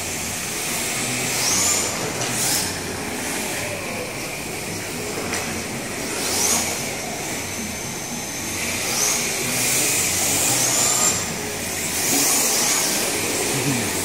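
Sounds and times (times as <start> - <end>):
mall background hum: 0.0 - 14.0
rc car electric motors whining: 0.0 - 14.0.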